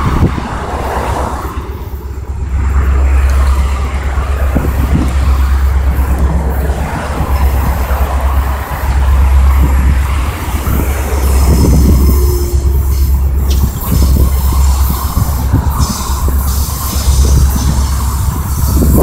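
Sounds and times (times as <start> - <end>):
cars passing close by: 0.0 - 19.0
distant freight train approaching: 0.0 - 19.0
wind rumble on microphone: 0.0 - 19.0.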